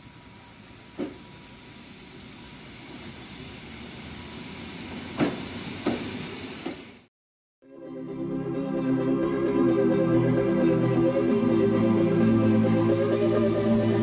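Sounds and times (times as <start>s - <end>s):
train rumbling: 0.0s - 7.1s, 8.1s - 14.0s.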